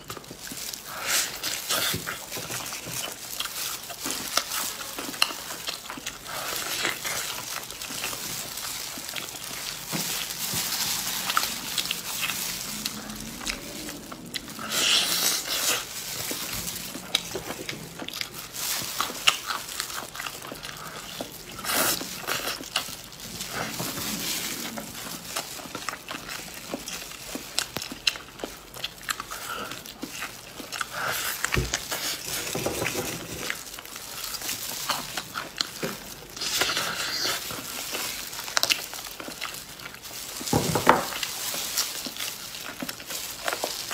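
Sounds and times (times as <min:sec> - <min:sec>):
chewing and smacking: 0:00.0 - 0:43.9.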